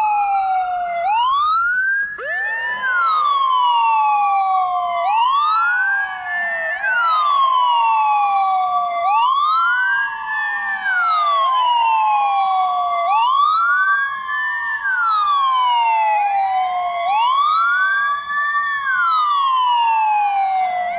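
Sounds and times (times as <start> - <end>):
ambulance siren wailing: 0.0 - 20.9
steady siren tone: 0.0 - 20.9.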